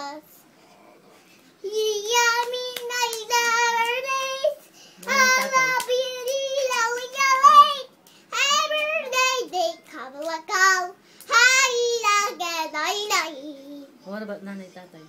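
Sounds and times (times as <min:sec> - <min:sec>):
girl singing: 0:01.6 - 0:13.9.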